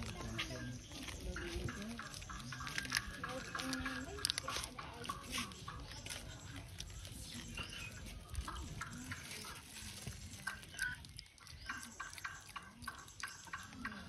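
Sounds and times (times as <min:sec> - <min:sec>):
foil snack packet crinkling: 0:00.0 - 0:13.6.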